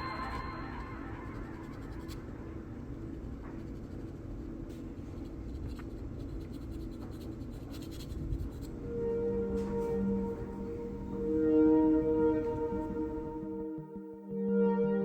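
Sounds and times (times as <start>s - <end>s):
low steady hum: 0.0s - 15.0s
faint scratching and scraping: 1.2s - 13.4s.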